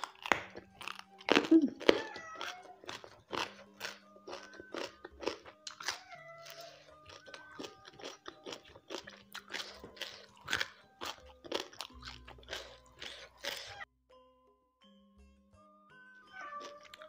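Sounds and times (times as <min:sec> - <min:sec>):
person chewing crunchy food: 0:00.0 - 0:13.9, 0:16.5 - 0:17.0
faint background music: 0:00.0 - 0:17.0.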